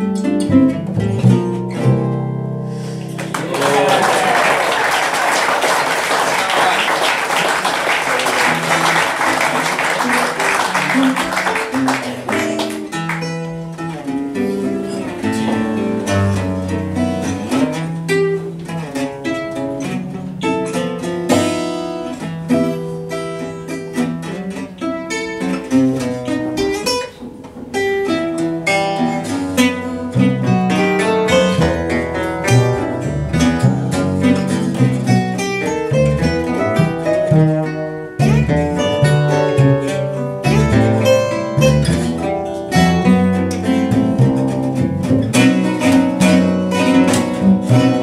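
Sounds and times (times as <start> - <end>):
plucked acoustic guitar melody: 0.0 - 3.5, 5.8 - 48.0
walking double bass: 0.0 - 3.8, 7.4 - 48.0.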